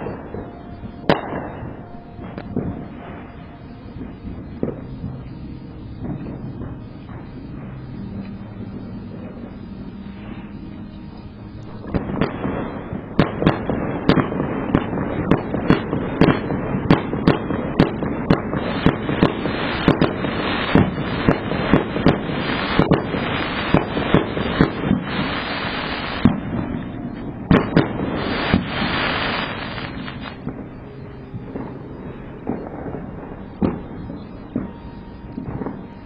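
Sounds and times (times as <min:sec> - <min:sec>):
fireworks bangs: 0:00.0 - 0:36.0
fireworks crackling: 0:00.0 - 0:36.0
fireworks hissing: 0:00.0 - 0:36.0.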